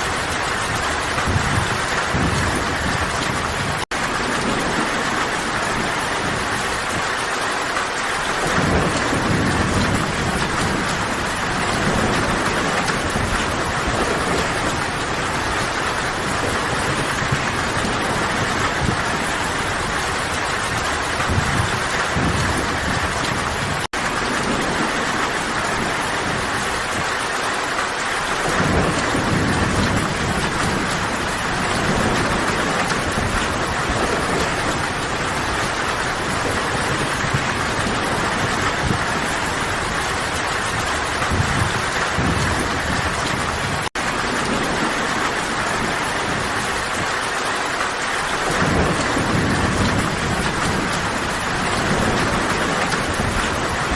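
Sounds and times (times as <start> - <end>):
heavy rain in a forest: 0.0 - 53.9.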